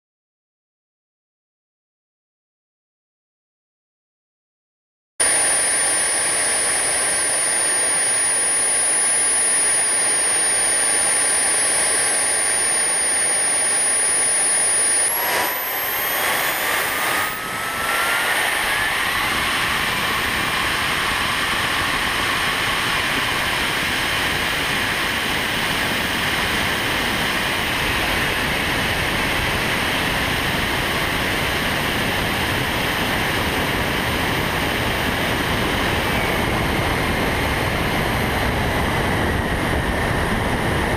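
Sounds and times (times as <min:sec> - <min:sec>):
model plane motor whining: 0:05.2 - 0:40.9
rush of air and propeller: 0:05.2 - 0:40.9.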